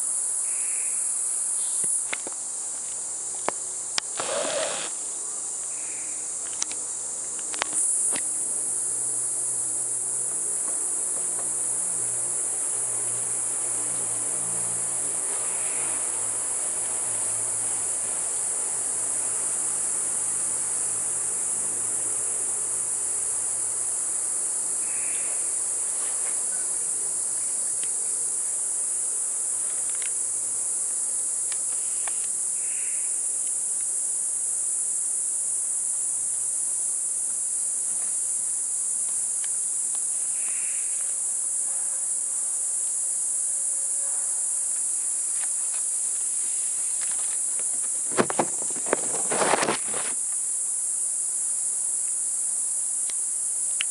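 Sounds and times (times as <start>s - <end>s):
insects chorus: 0.0s - 53.9s
short high insect calls: 0.0s - 53.9s.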